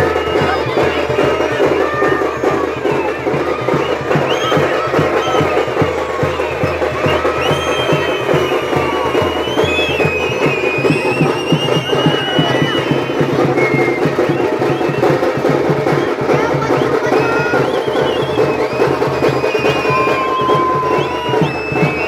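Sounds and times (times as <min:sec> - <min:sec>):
frame drums beaten fast: 0:00.0 - 0:22.0.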